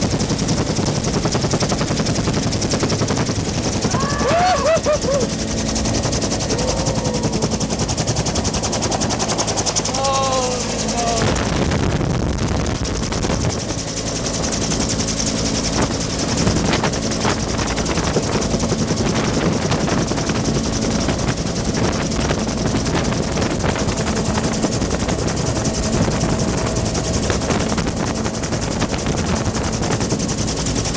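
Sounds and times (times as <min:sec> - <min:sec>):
helicopter engine running: 0:00.0 - 0:30.9
helicopter rotor beating: 0:00.0 - 0:30.9.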